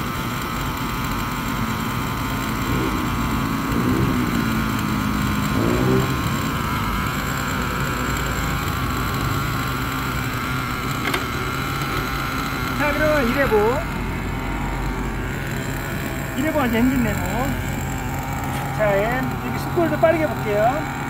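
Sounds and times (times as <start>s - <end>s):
small nitro engine idling: 0.0s - 21.0s.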